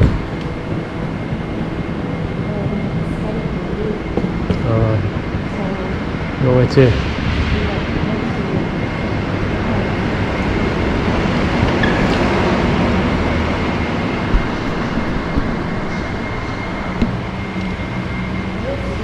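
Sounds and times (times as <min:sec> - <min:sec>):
high whine: 0:00.0 - 0:19.0
train rumble and hum: 0:00.0 - 0:19.0.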